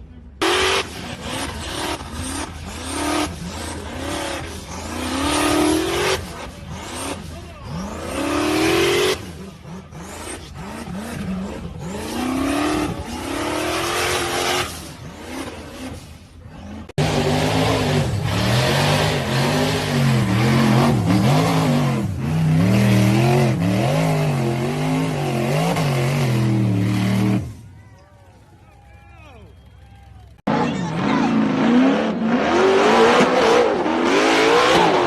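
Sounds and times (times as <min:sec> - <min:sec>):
engine revving hard: 0:00.4 - 0:27.6, 0:30.5 - 0:35.0.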